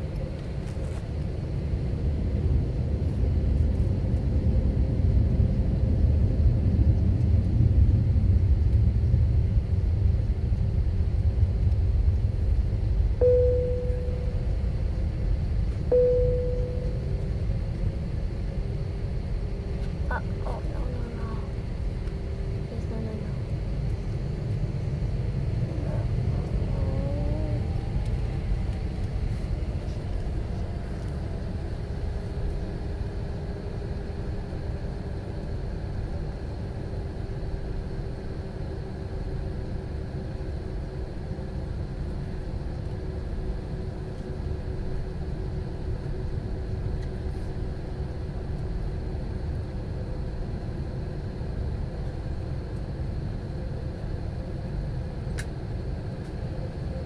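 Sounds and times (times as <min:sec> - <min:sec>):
jet cabin low rumble: 0:00.0 - 0:57.0
faint steady hum: 0:05.1 - 0:57.0.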